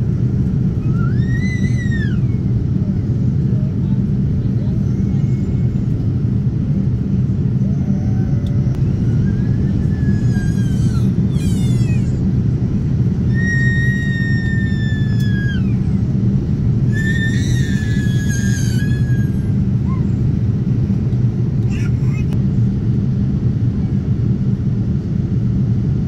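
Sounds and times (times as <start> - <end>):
airliner engine roar: 0.0 - 26.0.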